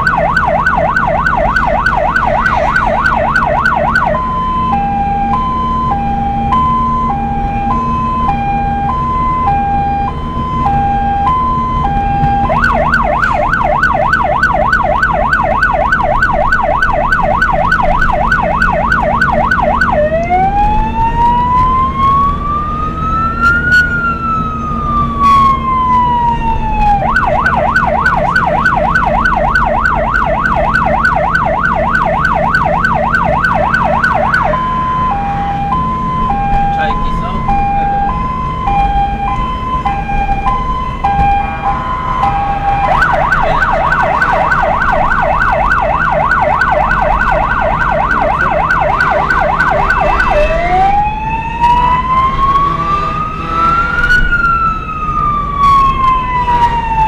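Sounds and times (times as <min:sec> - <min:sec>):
emergency siren: 0:00.0 - 0:57.0
vehicle engine hum: 0:00.0 - 0:57.0.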